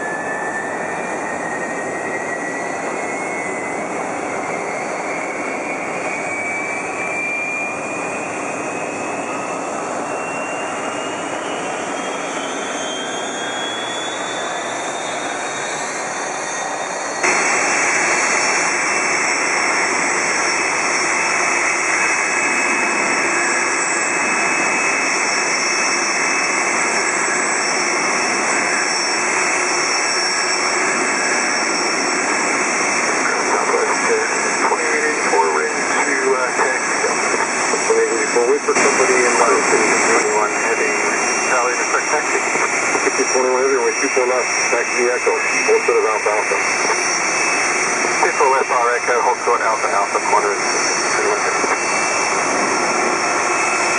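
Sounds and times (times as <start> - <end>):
jet engine starting up: 0.0 - 53.9.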